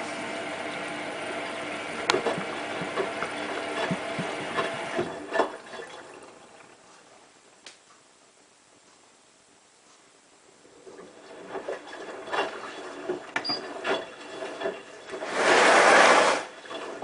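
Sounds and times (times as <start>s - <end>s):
washing machine running: 0.0s - 7.4s, 10.6s - 17.0s
water sounds: 0.0s - 7.6s, 10.6s - 17.0s.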